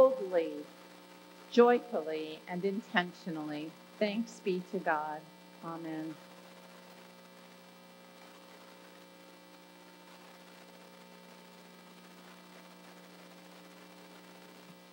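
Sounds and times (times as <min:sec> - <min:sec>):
electrical mains hum: 0:00.0 - 0:14.9
faint hiss: 0:00.0 - 0:14.9.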